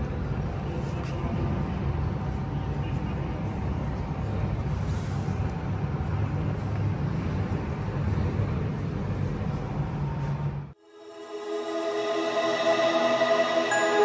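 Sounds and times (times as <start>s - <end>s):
railway station rumble and hiss: 0.0s - 14.0s.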